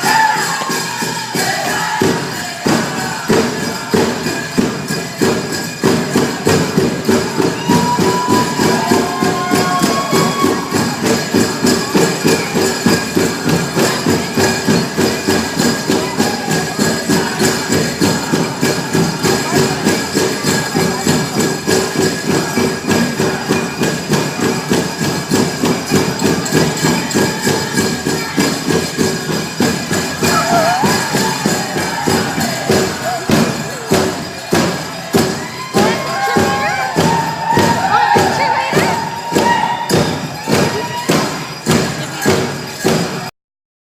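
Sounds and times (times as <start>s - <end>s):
high singing voices: 0.0s - 43.0s
bells jingling: 0.0s - 43.3s
big drum beating: 0.0s - 43.3s.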